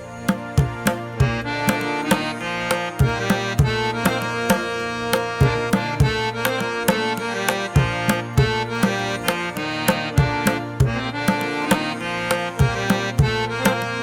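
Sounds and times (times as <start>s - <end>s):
sustained melodic notes: 0.0s - 14.0s.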